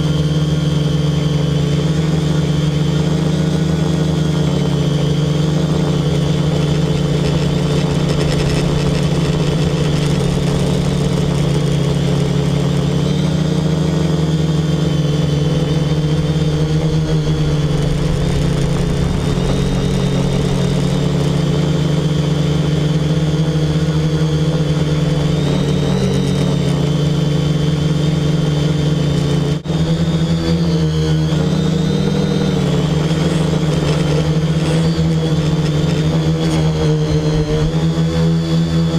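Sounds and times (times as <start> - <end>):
quadcopter motors humming: 0.0 - 38.9.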